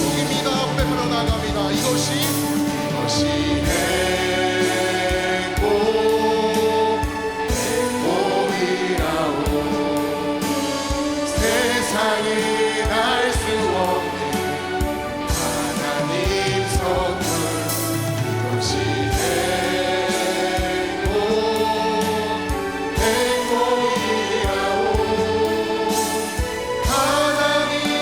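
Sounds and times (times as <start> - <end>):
band accompaniment: 0.0 - 28.0
group singing worship song: 0.0 - 28.0.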